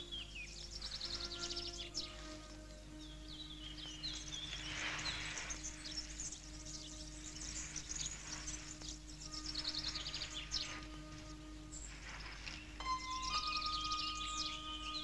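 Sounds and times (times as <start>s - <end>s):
low hum and hiss: 0.0s - 15.0s
small birds chirping: 0.0s - 15.0s.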